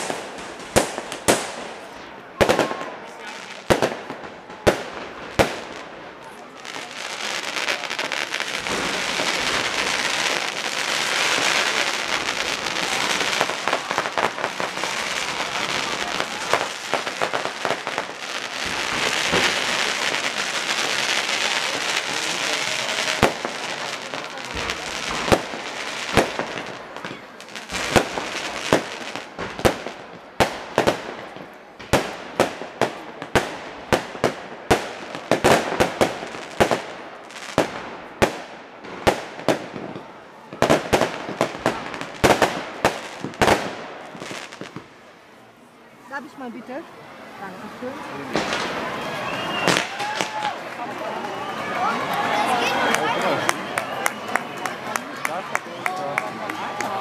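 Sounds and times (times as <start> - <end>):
fireworks bangs: 0.0 - 45.2, 46.0 - 57.0
fireworks crackling and hissing: 0.0 - 57.0.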